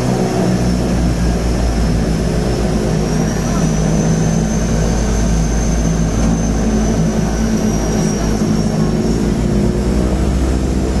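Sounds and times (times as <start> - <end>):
propeller engines droning: 0.0 - 11.0.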